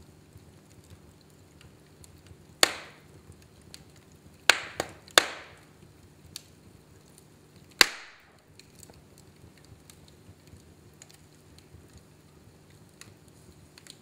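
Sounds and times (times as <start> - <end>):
sharp pops from burning logs: 0.0 - 14.0
wood fire crackling: 0.0 - 14.0.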